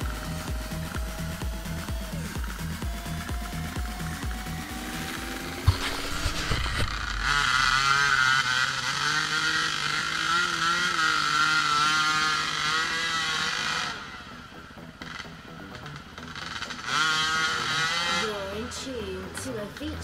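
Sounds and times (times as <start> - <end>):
dirt bike engine revving: 0.0 - 19.3.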